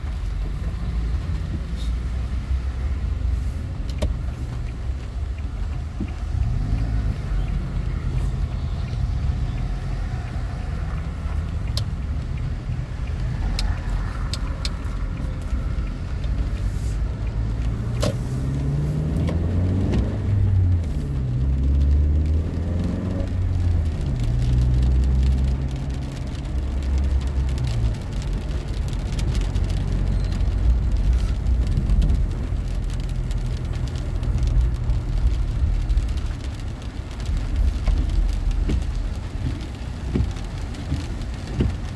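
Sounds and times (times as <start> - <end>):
car engine: 0.0 - 41.9
road rumble on wet road: 0.0 - 41.9.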